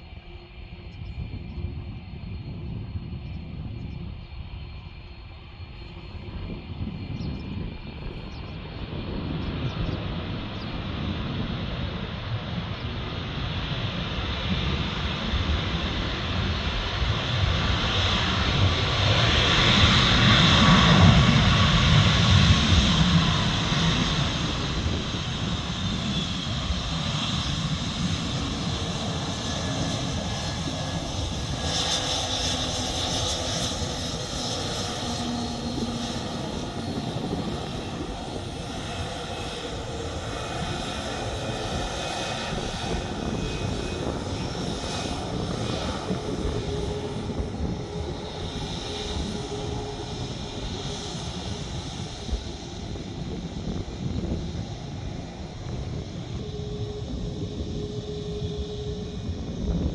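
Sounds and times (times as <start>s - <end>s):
airliner engines droning: 0.0s - 59.9s.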